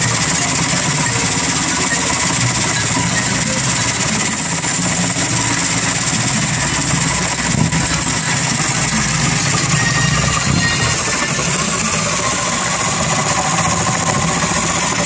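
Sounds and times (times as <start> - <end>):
power drill boring into wood: 0.0 - 15.0.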